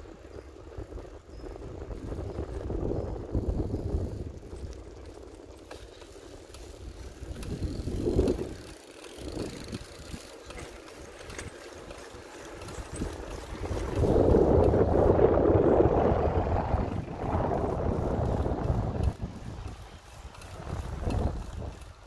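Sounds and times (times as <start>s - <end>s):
bicycle ride rumble: 0.0s - 22.0s
wind buffeting microphone: 0.0s - 22.0s.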